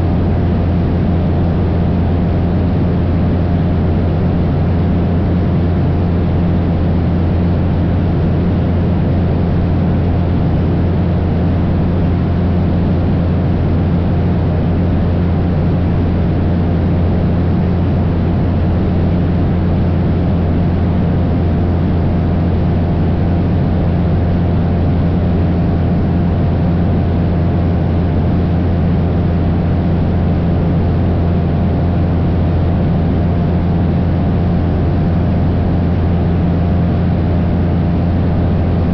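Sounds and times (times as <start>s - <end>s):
propeller plane droning: 0.0s - 38.9s.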